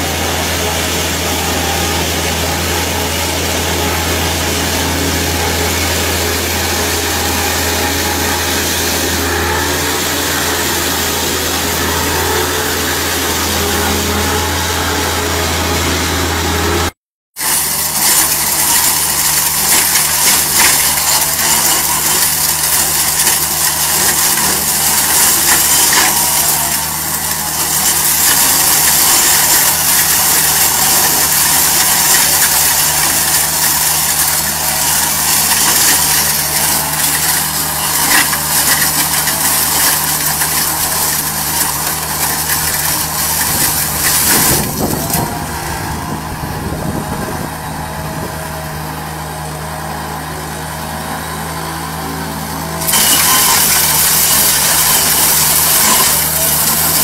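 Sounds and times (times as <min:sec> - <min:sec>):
loader engine drone: 0:00.0 - 0:57.0.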